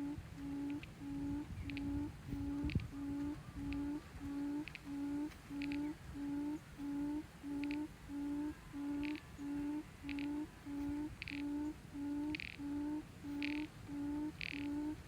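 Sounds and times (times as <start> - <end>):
bird hooting: 0.0 - 15.0.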